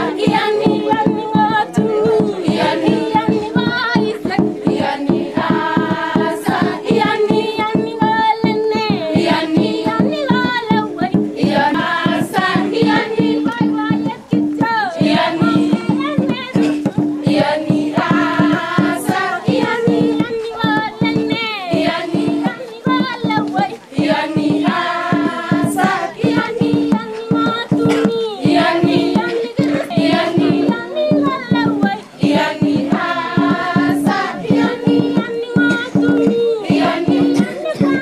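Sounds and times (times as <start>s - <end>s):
girls singing together: 0.0s - 38.0s
steady rhythmic beat: 0.0s - 38.0s.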